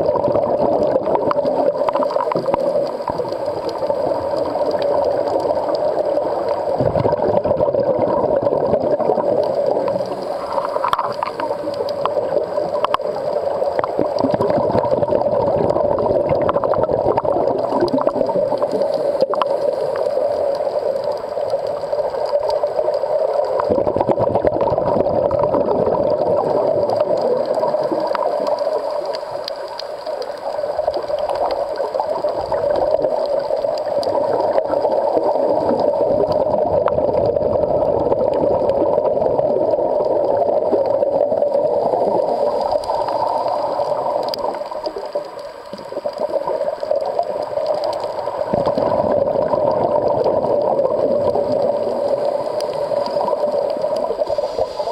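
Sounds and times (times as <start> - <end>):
muffled underwater noise: 0.0 - 54.9
faint clicks: 0.8 - 7.2, 8.2 - 24.1, 24.9 - 37.2, 38.3 - 54.9.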